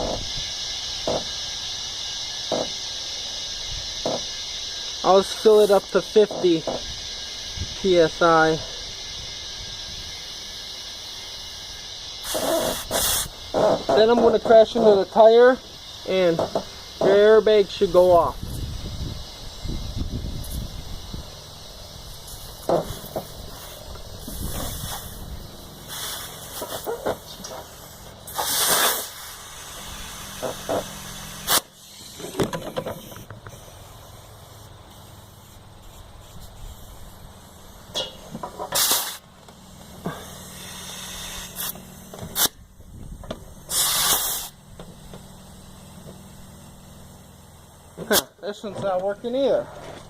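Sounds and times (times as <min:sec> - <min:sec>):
compressed air hissing: 0:00.0 - 0:50.0
steady low hum: 0:00.0 - 0:50.0.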